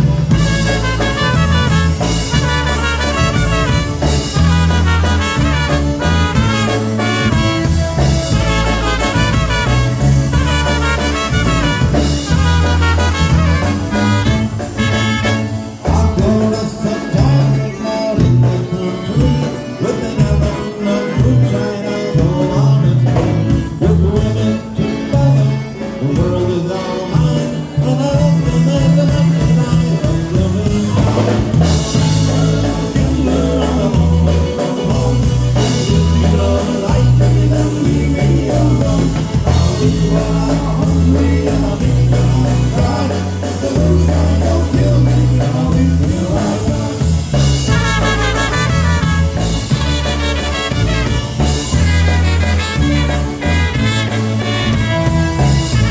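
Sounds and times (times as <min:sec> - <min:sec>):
bass line: 0:00.0 - 0:55.9
drum kit: 0:00.0 - 0:55.9
polka band playing dance tune: 0:00.0 - 0:55.9.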